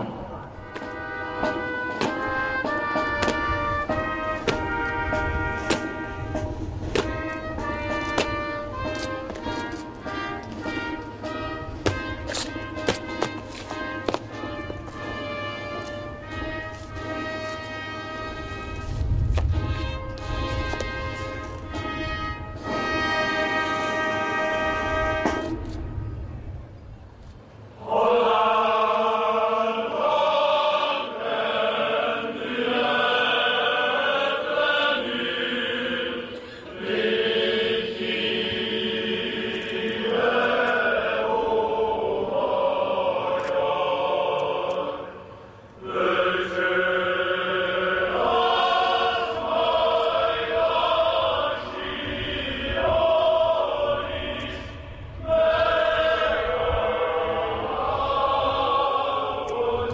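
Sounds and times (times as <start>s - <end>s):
choir singing slow song: 0.0s - 26.2s, 27.6s - 59.9s.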